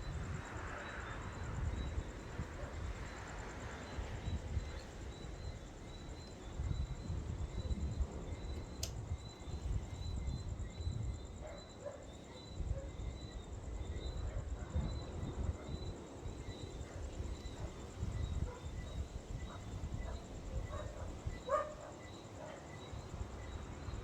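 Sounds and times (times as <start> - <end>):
wind on microphone: 0.0 - 11.6, 12.5 - 21.8
high insect trill: 0.0 - 24.0.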